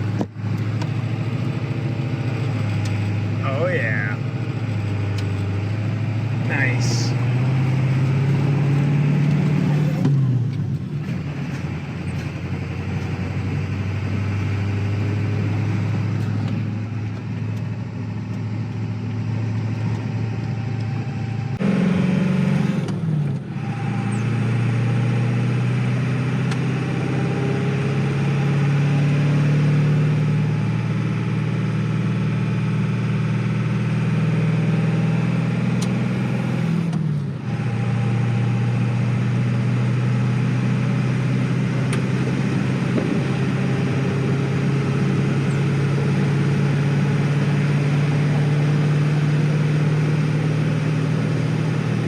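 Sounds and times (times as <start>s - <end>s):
vehicle engine changing gears: 0.0s - 52.0s.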